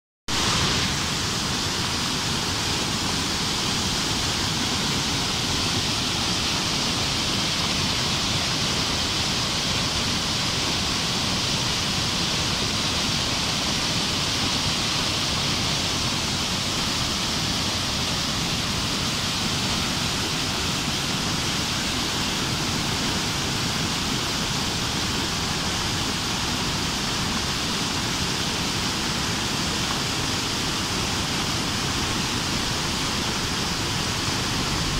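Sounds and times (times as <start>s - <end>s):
river water rushing over weir: 0.3s - 34.9s.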